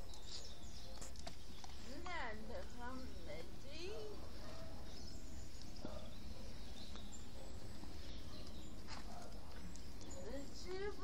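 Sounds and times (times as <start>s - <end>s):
faint chirps and ticks: 0.0s - 11.0s.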